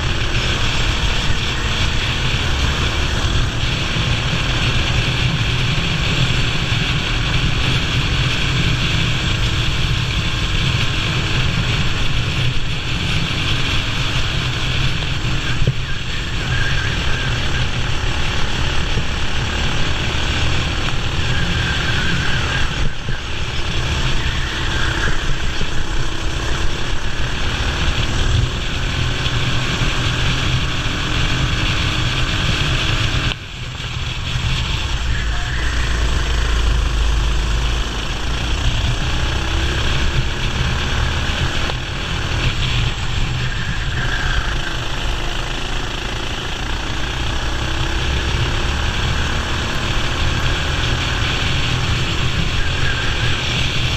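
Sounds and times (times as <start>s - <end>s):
racing kart engine: 0.0s - 53.9s.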